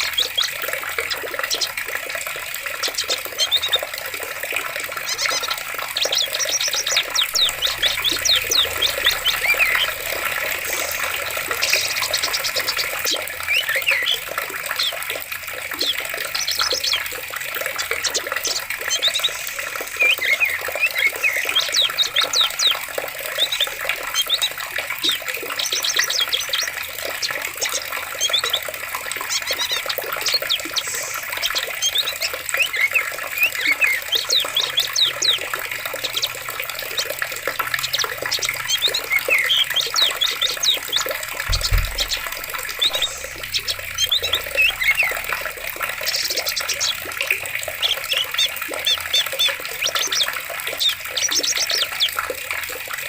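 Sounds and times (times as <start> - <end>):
small birds chirping: 0.0 - 52.5
running water: 0.0 - 53.0.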